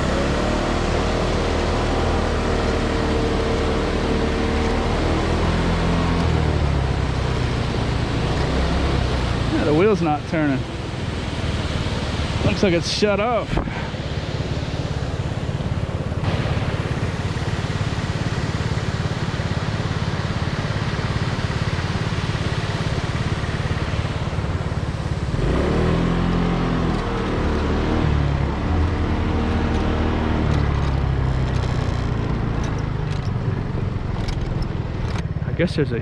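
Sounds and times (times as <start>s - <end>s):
car engine: 0.0s - 36.0s
road noise: 0.0s - 36.0s.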